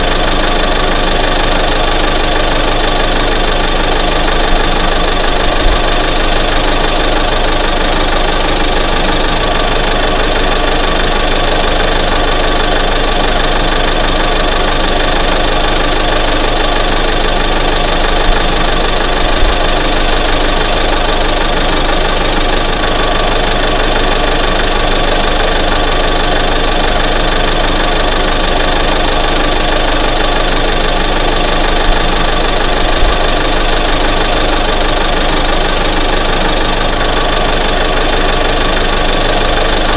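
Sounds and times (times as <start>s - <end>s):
pickup truck engine idling: 0.0s - 39.9s.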